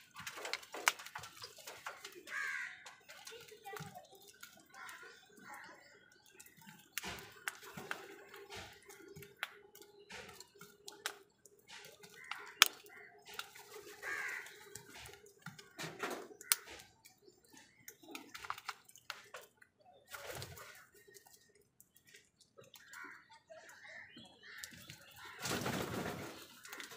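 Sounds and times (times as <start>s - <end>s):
crows pecking at plastic bowl: 0.0s - 26.9s.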